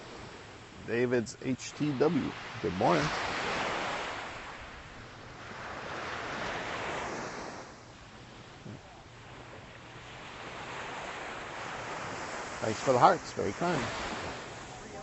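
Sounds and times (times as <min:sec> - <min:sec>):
small ocean waves breaking: 0:00.0 - 0:15.0.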